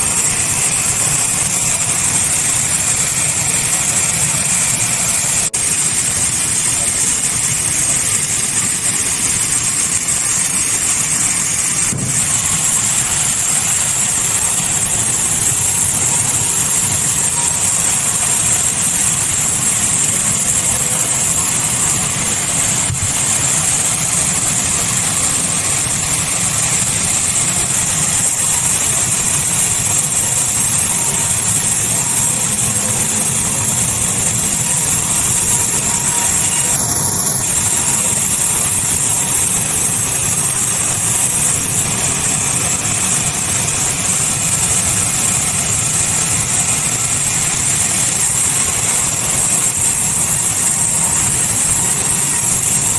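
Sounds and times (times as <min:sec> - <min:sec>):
sawmill saw running: 0:00.0 - 0:52.9.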